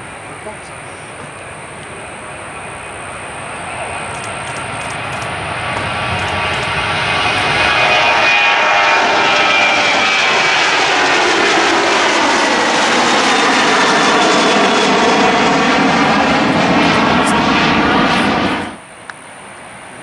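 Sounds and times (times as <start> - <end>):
high whine: 0.0 - 19.0
jet engine roar: 0.0 - 20.0.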